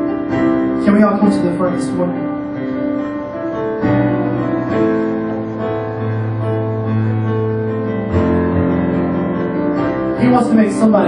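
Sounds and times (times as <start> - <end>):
keyboard playing slow chords: 0.0 - 11.0.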